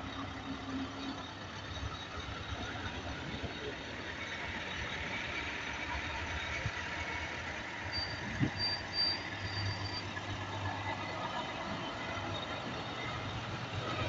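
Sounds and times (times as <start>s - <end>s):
truck engines droning: 0.0s - 14.0s.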